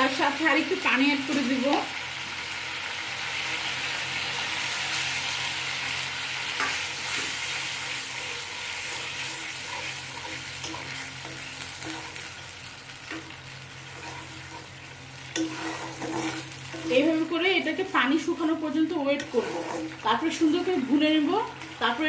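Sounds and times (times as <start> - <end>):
paste sizzling in iron pan: 0.0 - 22.0.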